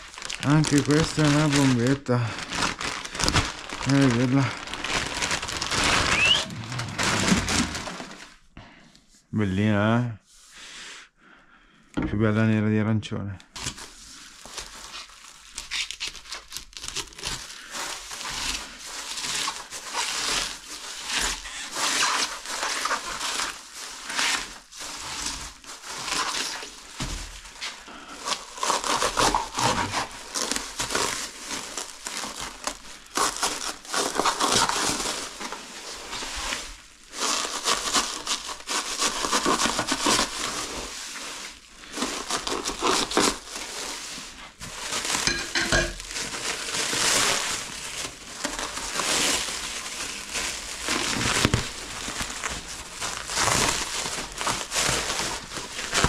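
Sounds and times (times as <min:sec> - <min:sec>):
plastic wrap crinkling and tearing: 0:00.0 - 0:08.6, 0:13.5 - 0:56.0.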